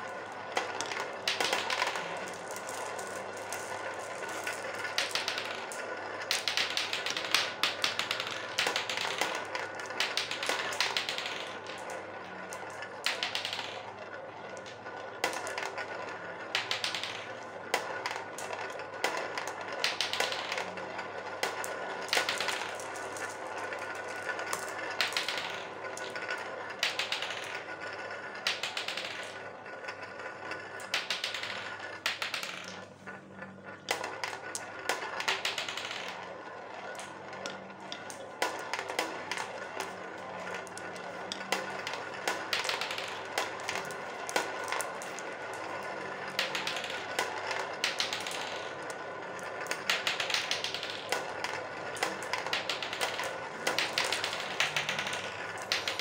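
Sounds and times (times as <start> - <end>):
glass marbles rolling in funnel: 0.0 - 56.0
marbles clicking together: 0.0 - 56.0.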